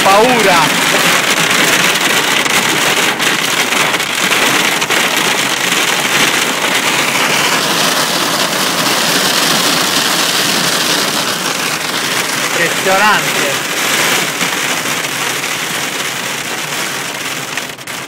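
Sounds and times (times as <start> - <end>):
hail pelting car roof: 0.0 - 18.0.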